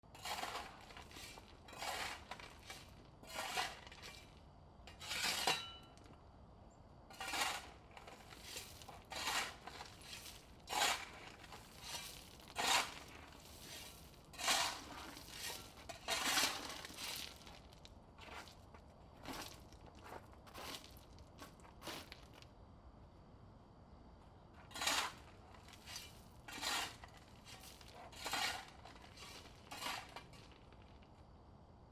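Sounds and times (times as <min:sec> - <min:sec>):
shovel scraping rocks: 0:00.1 - 0:06.0, 0:07.1 - 0:22.2, 0:24.6 - 0:30.9.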